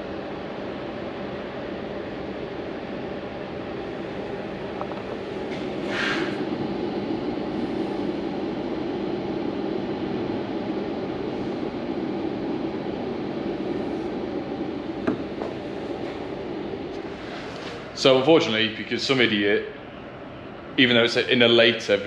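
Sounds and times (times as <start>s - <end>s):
electric fan whirring: 0.0s - 22.0s.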